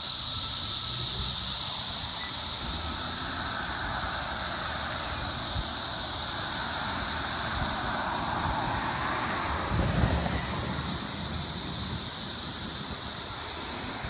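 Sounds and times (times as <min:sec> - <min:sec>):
loud high-pitched hiss: 0:00.0 - 0:14.0
low rumble of street noise: 0:00.0 - 0:14.0.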